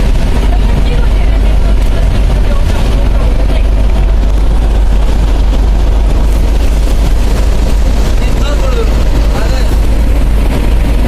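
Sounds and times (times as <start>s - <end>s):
vehicle deep rumble: 0.0s - 11.0s.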